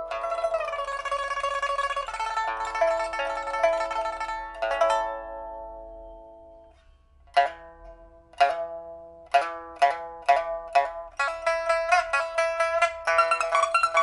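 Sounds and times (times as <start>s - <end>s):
pipa plucked notes and chords: 0.0s - 6.7s, 7.3s - 14.0s.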